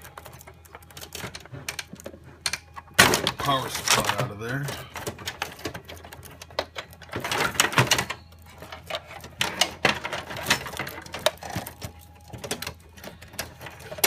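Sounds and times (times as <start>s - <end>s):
metal and plastic parts rattling: 0.0s - 14.0s.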